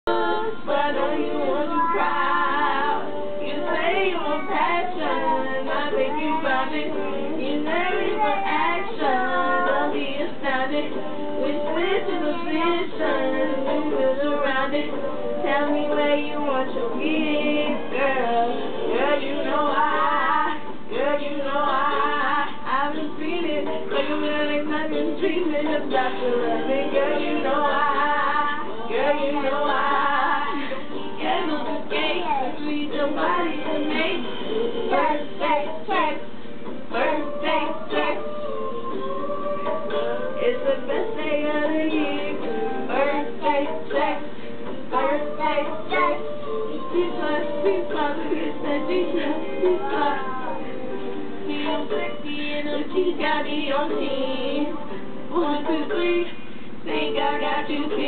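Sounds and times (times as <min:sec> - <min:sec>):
song playing: 0:00.0 - 0:58.0
child singing along: 0:00.1 - 0:36.2, 0:36.9 - 0:44.3, 0:44.9 - 0:50.9.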